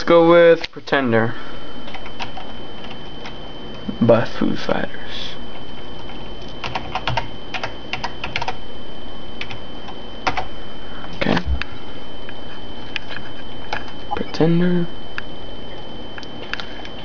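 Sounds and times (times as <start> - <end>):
steady high whine: 0.0 - 17.0.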